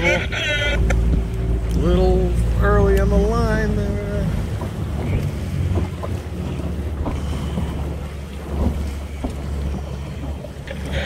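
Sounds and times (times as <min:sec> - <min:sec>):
boat engine running: 0:00.0 - 0:11.0
water splashing against hull: 0:00.0 - 0:11.0
wind buffeting microphone: 0:00.0 - 0:11.0.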